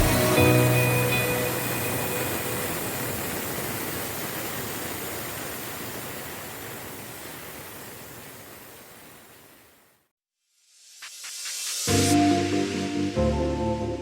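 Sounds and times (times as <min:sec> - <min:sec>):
steady rushing hiss: 0:00.0 - 0:10.0, 0:10.6 - 0:13.2.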